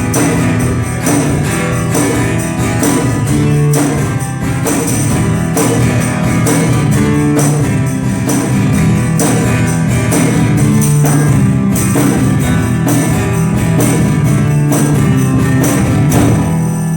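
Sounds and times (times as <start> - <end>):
guitar playing: 0.0 - 16.9
tambourine percussion: 0.0 - 16.9.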